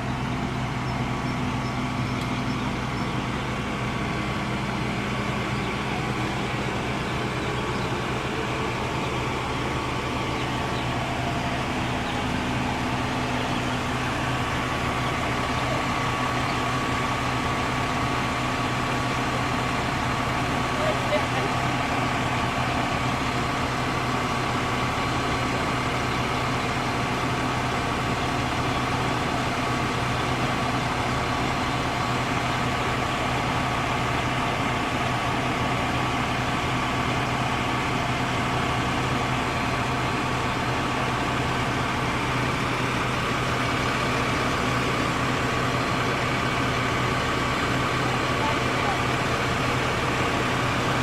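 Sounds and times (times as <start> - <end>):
fire truck engine idling: 0.0 - 51.0.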